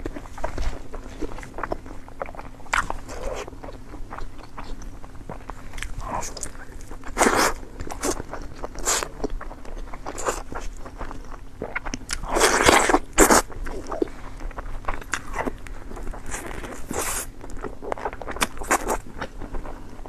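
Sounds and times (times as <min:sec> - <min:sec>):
person chewing with wet smacks: 0:00.0 - 0:20.0.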